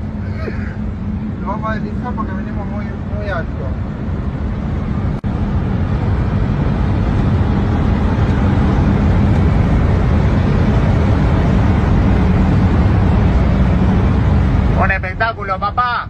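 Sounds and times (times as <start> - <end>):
air rushing past plane cabin: 0.0 - 15.4.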